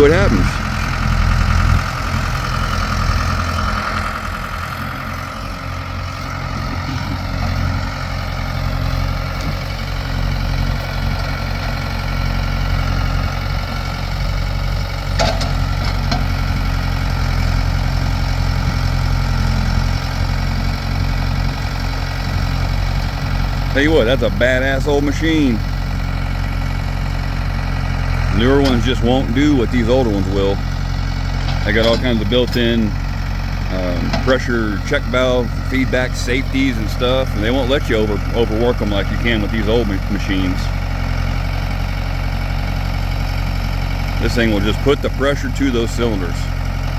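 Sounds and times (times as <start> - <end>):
backhoe engine running: 0.0 - 46.9.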